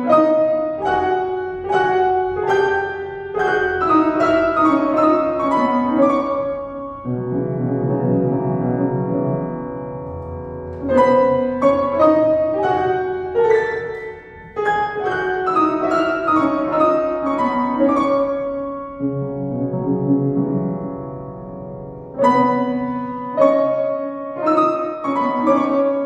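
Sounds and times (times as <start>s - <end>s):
upright piano playing: 0.0s - 26.0s.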